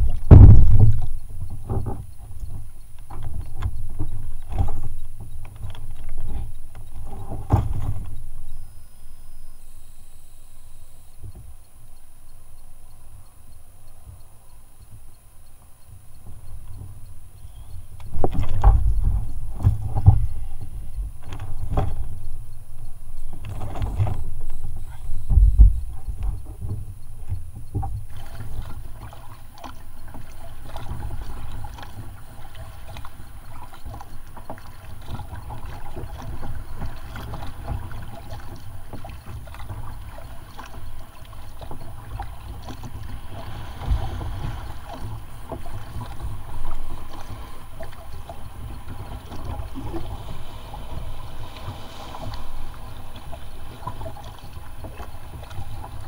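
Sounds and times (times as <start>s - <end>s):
knocks and thumps on kayak: 0.0s - 8.5s, 18.0s - 56.0s
paddle splashing water: 0.0s - 12.8s, 15.7s - 56.0s.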